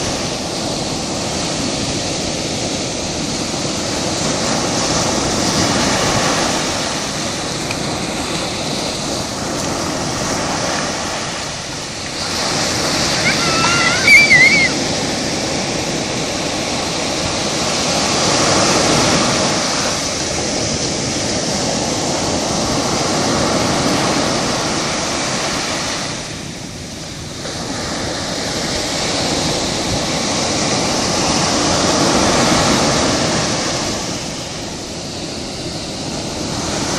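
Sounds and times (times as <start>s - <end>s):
ocean surf breaking: 0.0s - 36.9s.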